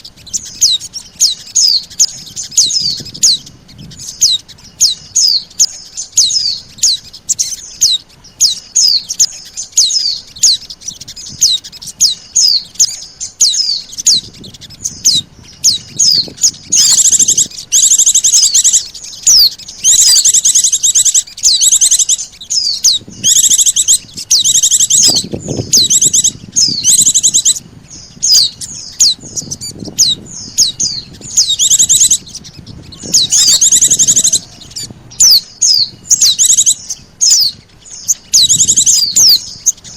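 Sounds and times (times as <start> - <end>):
high down-slurred bird chirps: 0.0 - 39.9
high trilled bird phrases: 0.0 - 39.9.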